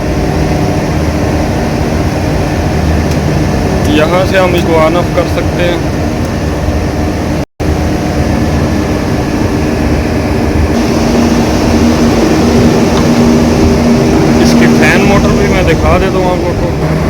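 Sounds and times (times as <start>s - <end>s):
chiller machine drone: 0.0s - 17.0s.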